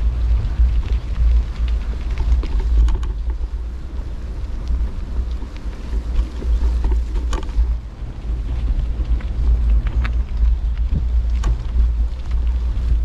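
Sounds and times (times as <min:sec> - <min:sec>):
light clicks and rattles: 0:00.0 - 0:13.0
wind buffeting microphone: 0:00.0 - 0:13.0.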